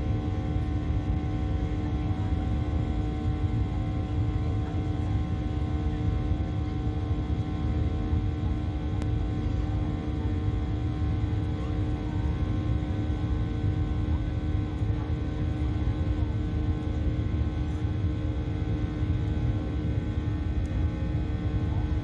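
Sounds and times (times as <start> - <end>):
jet engine and airflow rumble: 0.0 - 22.0.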